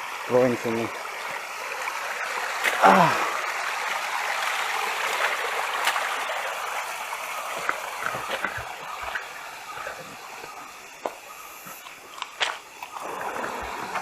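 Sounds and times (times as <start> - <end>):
flowing stream water: 0.0 - 14.0
small splashes and drips: 0.5 - 14.0.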